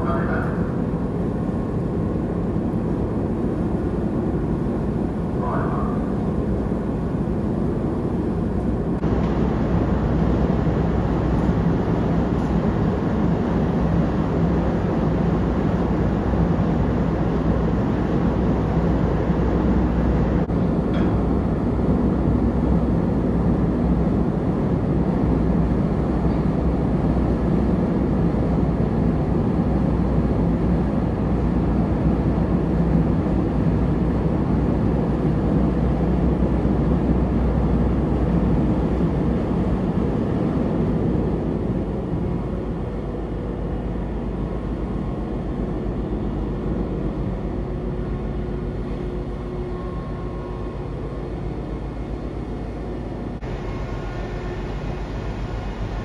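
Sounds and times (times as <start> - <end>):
ship engines rumbling and humming: 0.0 - 56.0.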